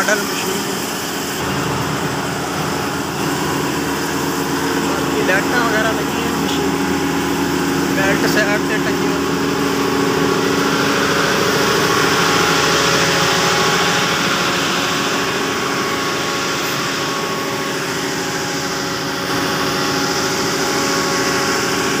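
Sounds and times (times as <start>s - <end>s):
combine harvester engine drone: 0.0s - 22.0s
whir of machinery: 0.0s - 22.0s.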